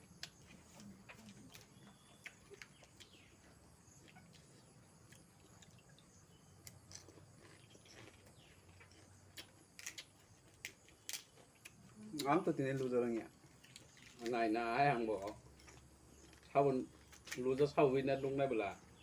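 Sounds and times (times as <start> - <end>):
crunching while eating: 0.0 - 19.0.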